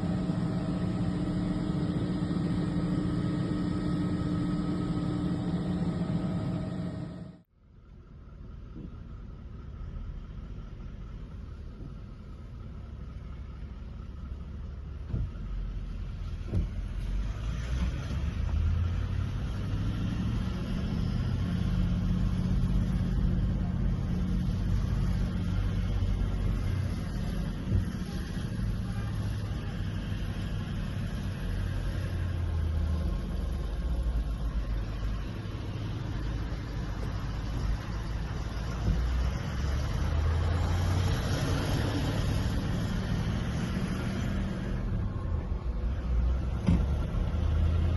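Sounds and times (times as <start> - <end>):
vehicle engine droning: 0.0 - 47.9.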